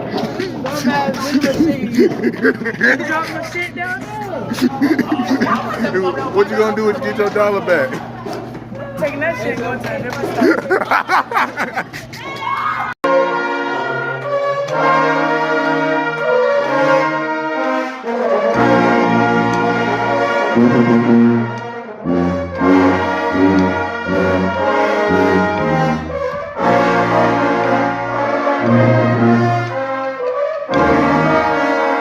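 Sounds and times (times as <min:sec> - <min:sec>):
brass band playing chords: 0:00.0 - 0:08.3, 0:13.0 - 0:32.0.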